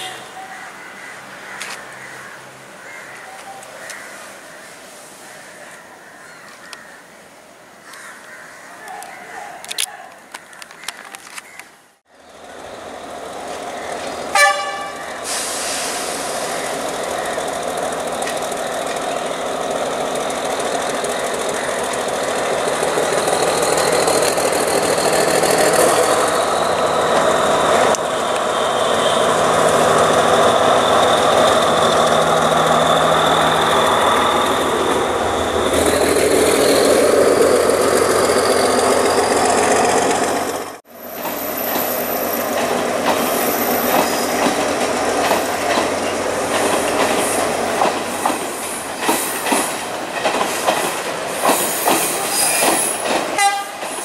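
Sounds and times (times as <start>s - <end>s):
wheels rumbling on rails: 9.7s - 54.0s.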